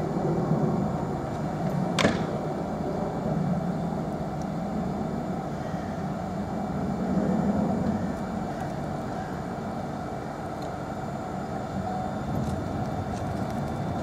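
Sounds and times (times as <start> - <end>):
locomotive engine rumbling: 0.0 - 14.0.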